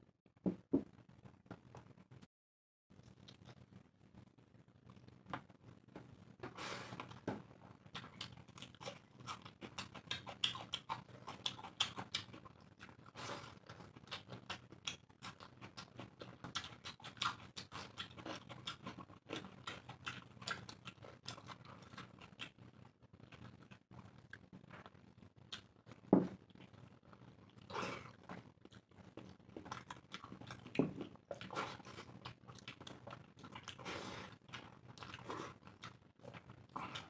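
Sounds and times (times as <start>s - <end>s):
chewing and lip smacking: 3.0s - 3.7s, 7.9s - 37.0s.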